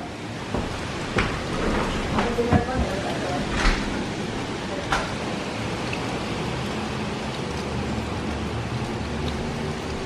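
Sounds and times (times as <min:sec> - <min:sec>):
heavy rain and wind rushing: 0:00.0 - 0:10.0.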